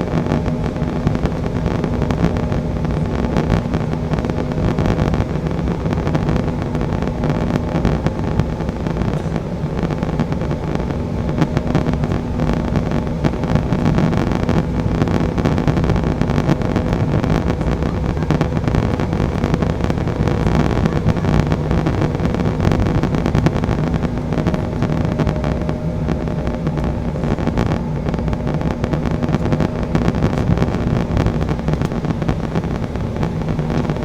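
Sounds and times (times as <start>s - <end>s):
jet engines droning: 0.0s - 34.0s
steady low hum: 0.0s - 34.0s.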